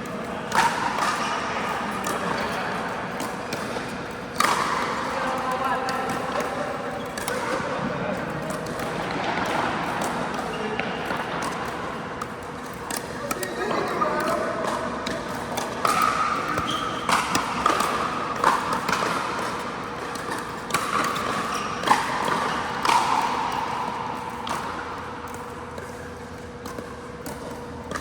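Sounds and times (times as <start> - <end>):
ball bouncing: 0.4 - 28.0.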